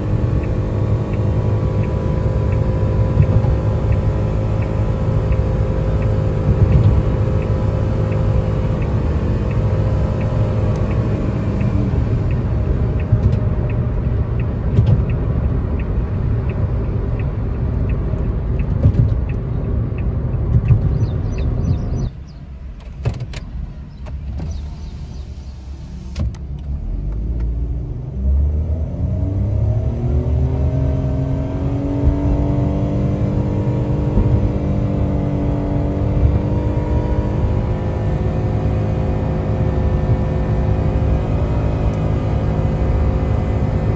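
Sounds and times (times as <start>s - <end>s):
car engine revving: 0.0s - 43.9s
road noise: 0.0s - 43.9s.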